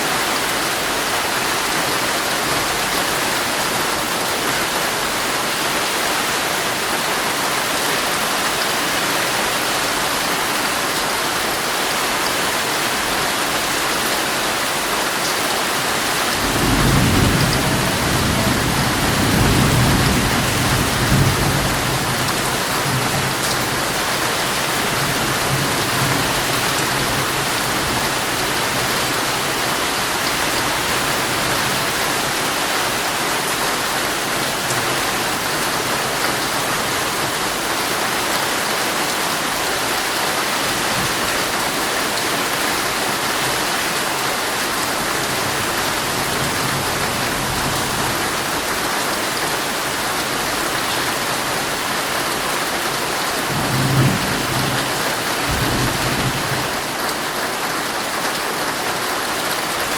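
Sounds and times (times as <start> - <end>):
heavy rain drumming on a tent: 0.0 - 59.9.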